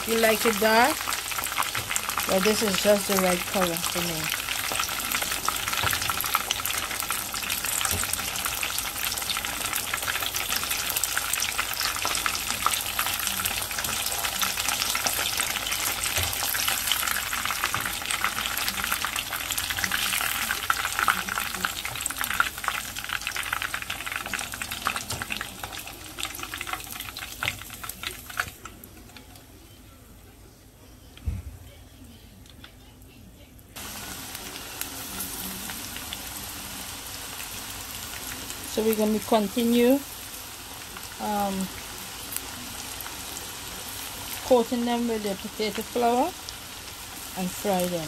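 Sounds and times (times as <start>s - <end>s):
chicken deep-frying in oil: 0.0s - 29.5s, 33.8s - 48.0s.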